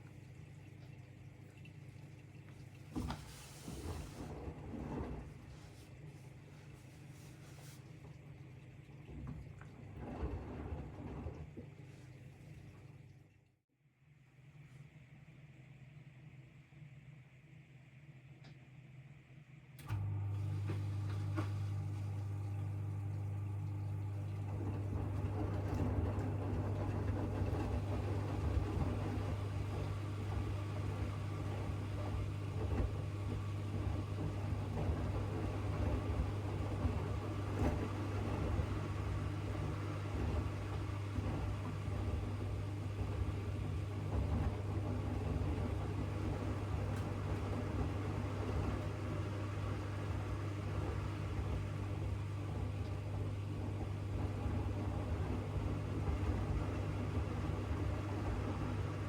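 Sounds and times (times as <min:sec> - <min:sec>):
washing machine rumbling: 0:00.0 - 0:13.5, 0:19.8 - 0:59.0
washing machine motor hum: 0:00.0 - 0:13.6, 0:14.4 - 0:59.0.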